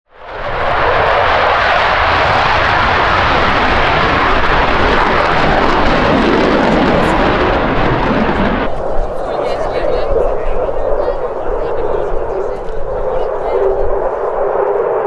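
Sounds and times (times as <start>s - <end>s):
jet engine roar passing: 0.1s - 15.0s.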